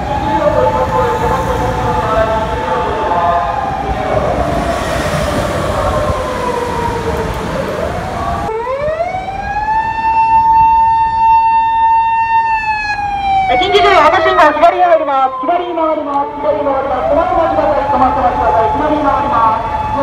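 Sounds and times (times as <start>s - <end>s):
police siren wailing: 0.0s - 20.0s
road noise: 0.0s - 20.0s.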